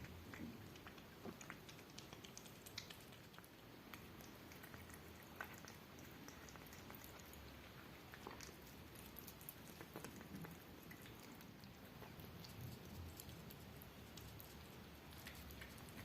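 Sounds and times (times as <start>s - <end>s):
cat chewing food: 0.0s - 16.0s.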